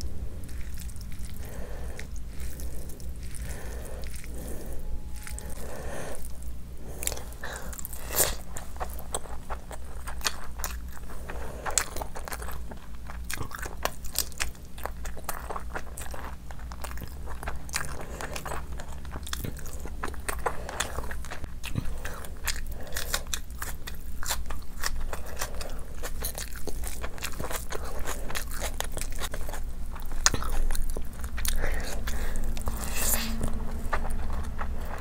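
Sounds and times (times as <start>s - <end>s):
person chewing and biting: 0.0s - 35.0s.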